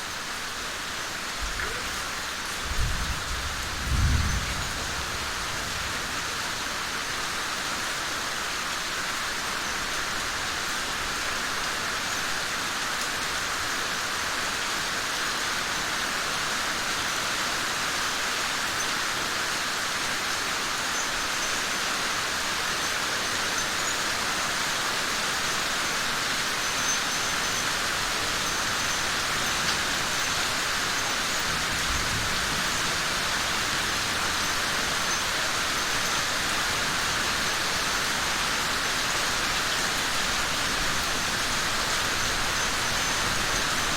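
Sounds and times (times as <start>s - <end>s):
steady rainfall: 0.0s - 43.9s.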